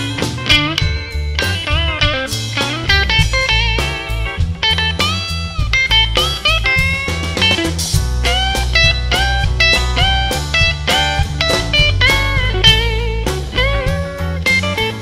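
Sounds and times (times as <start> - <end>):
bass guitar: 0.0 - 15.0
drums: 0.0 - 15.0
lead electric guitar with string bends: 0.0 - 15.0.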